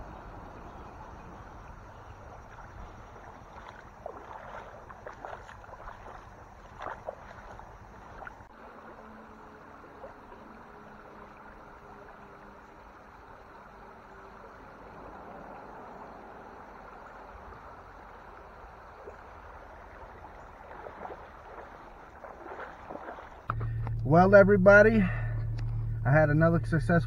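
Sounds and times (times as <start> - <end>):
water splashing around wading legs: 0.0 - 13.5, 14.4 - 24.0
stream current rushing: 0.0 - 23.9
faint low hum: 0.0 - 27.0.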